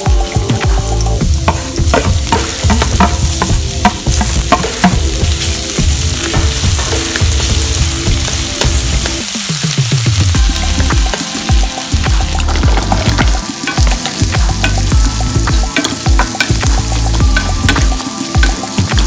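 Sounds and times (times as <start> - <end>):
garlic and onions sizzling in oil: 0.0 - 19.0
wooden spatula scraping wok: 1.2 - 19.0.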